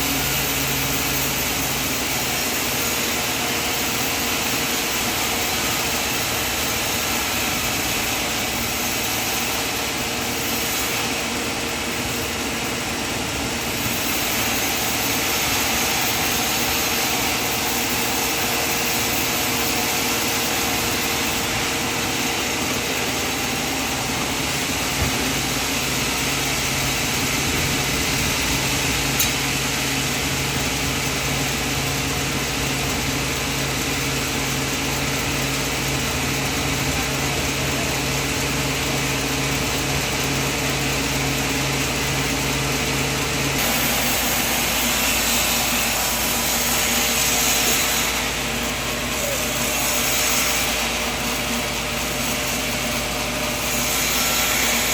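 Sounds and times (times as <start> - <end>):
band saw sawing: 0.0 - 54.9.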